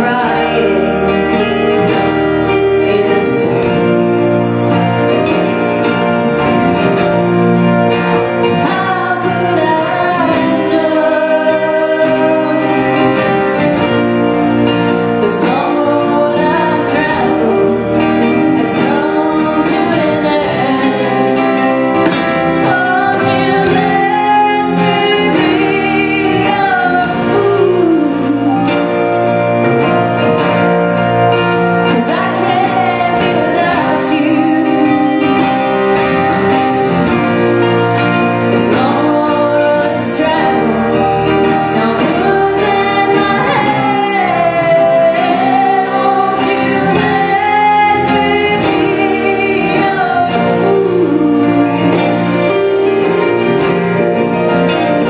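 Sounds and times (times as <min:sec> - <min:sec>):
woman singing: 0:00.0 - 0:29.7, 0:31.4 - 0:36.9, 0:37.6 - 0:53.3
live band playing: 0:00.0 - 0:55.0.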